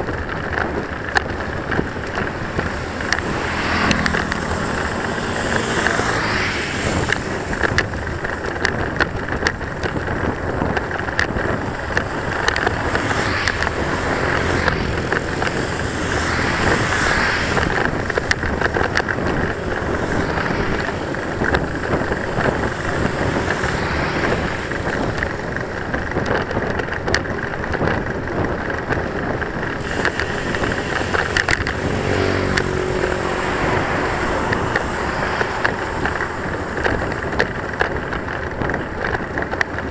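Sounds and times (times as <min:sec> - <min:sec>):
bicycle rolling noise: 0:00.0 - 0:39.9
motorbikes passing: 0:00.0 - 0:39.9
wind buffeting microphone: 0:00.0 - 0:39.9.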